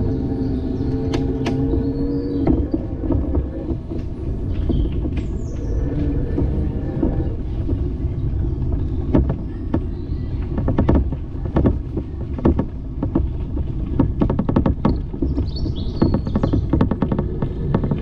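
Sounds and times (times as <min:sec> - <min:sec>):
bicycle rattling clicks and knocks: 0:00.0 - 0:18.0
bicycle riding noise: 0:00.0 - 0:18.0
wind rumble: 0:00.0 - 0:18.0.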